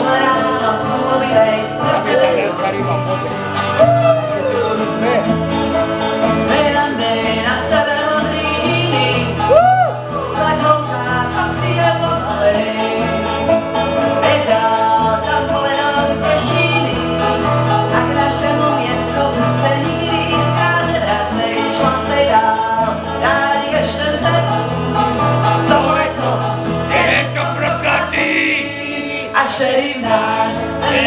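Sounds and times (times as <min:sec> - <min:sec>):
acoustic country music: 0:00.0 - 0:31.0
banjo: 0:00.0 - 0:31.0
guitars strumming: 0:00.0 - 0:31.0.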